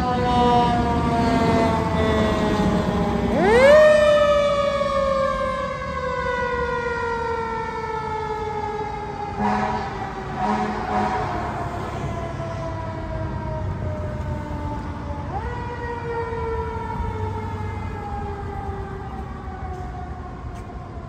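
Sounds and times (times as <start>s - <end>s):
fire engine siren: 0.0s - 21.0s
truck engine rumble: 0.0s - 21.0s.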